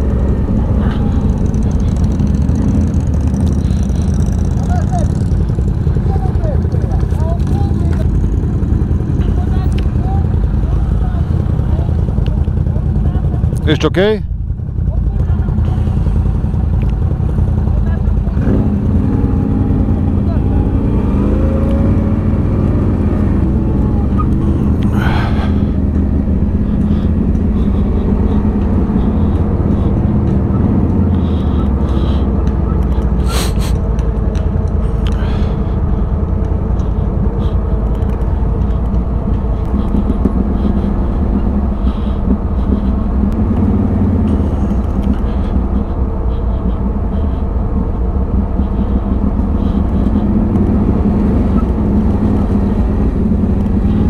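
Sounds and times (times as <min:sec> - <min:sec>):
quad engine running at low revs: 0:00.0 - 0:54.0.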